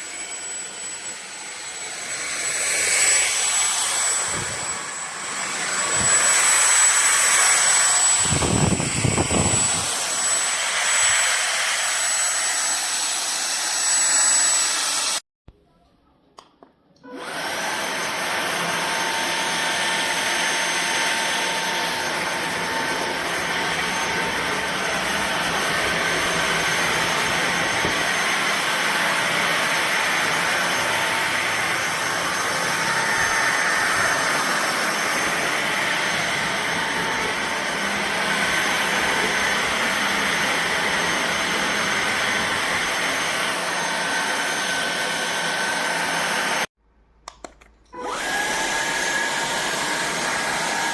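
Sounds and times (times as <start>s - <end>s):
vacuum cleaner running: 0.0s - 15.2s, 17.0s - 46.7s, 47.9s - 50.9s.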